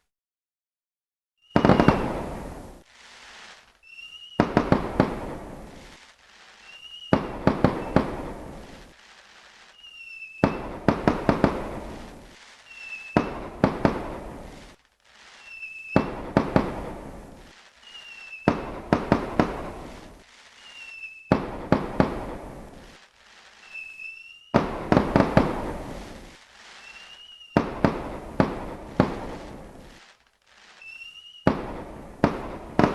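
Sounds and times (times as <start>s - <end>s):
firework bangs and crackle: 1.4s - 32.9s
firework whistle: 1.4s - 32.9s.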